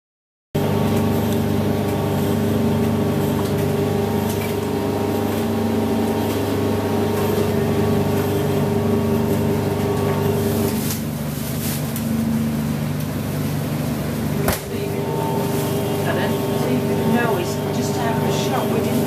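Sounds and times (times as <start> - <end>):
washing machine motor hum: 0.6 - 19.0.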